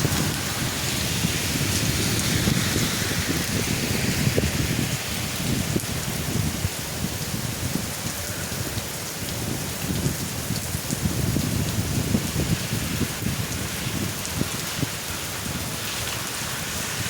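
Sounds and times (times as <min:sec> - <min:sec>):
heavy rain pouring: 0:00.0 - 0:17.0
raindrops striking close by: 0:00.0 - 0:17.0.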